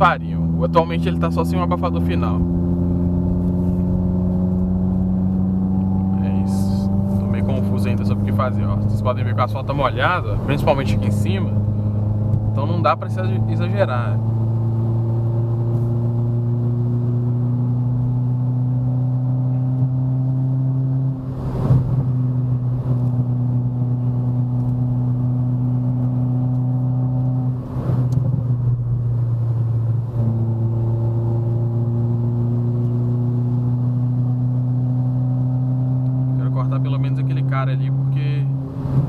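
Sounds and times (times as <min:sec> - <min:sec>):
car engine droning under load: 0:00.0 - 0:39.0.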